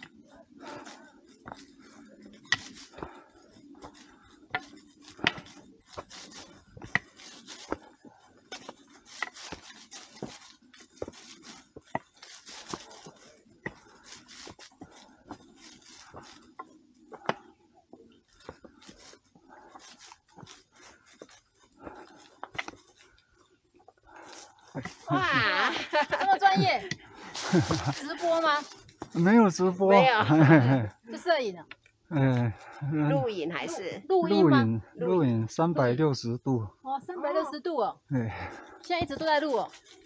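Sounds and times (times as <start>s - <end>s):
footsteps on forest trail: 0.0s - 30.4s, 38.3s - 40.0s.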